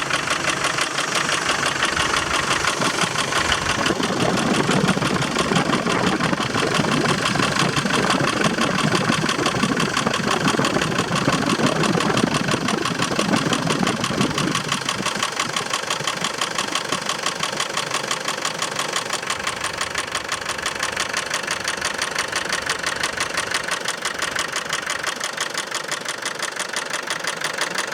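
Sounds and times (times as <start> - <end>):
diesel engine idling with clatter: 0.0 - 27.9.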